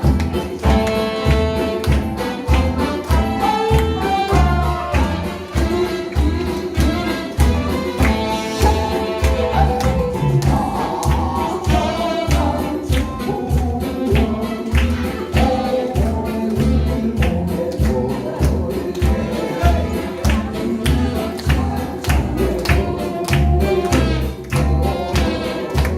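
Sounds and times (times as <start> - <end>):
live band playing: 0.0 - 25.9
person singing: 0.0 - 25.9.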